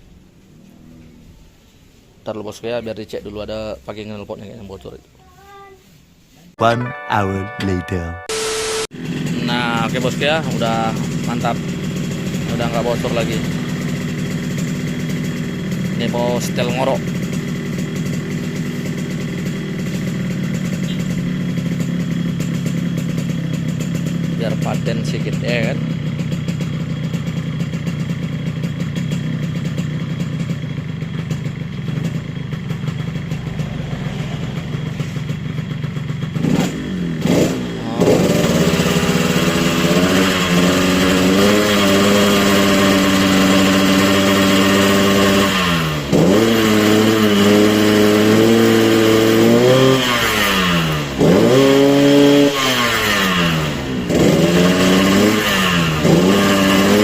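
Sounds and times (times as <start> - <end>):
two-stroke motorcycle engine revving: 8.4 - 57.0.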